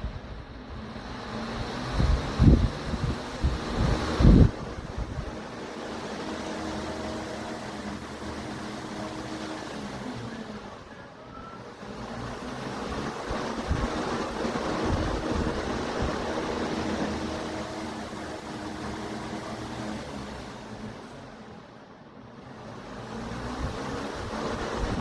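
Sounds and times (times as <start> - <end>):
faint motor hum: 0.0 - 25.0
fan airflow buffeting microphone: 0.0 - 25.0.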